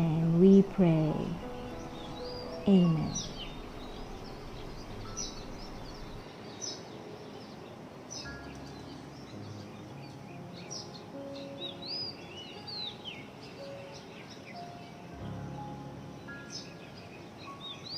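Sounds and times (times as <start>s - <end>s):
birds chirping: 0.0s - 17.9s
steady background hiss: 0.0s - 17.9s.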